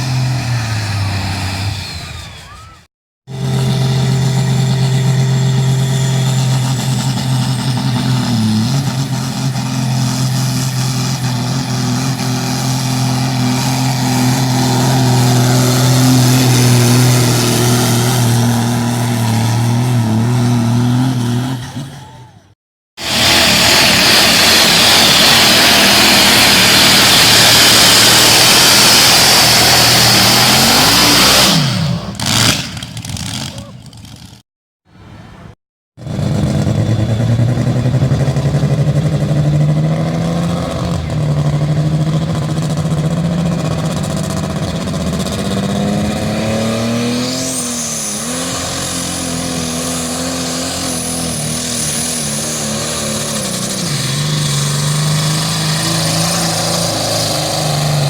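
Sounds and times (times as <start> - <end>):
tractor engine running flat out: 0.0 - 22.2, 23.0 - 34.4, 36.0 - 58.0.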